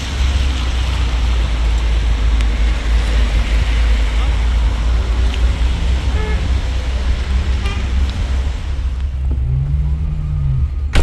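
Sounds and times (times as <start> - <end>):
motor vehicle engine rumbling: 0.0 - 11.0
road noise: 0.0 - 11.0.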